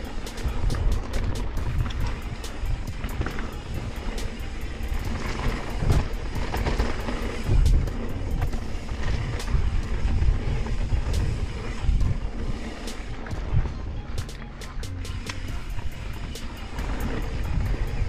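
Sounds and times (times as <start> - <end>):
bike clicks and rattles: 0.0 - 18.0
tyres rolling over dirt: 0.0 - 18.0
wind on microphone: 0.0 - 18.0.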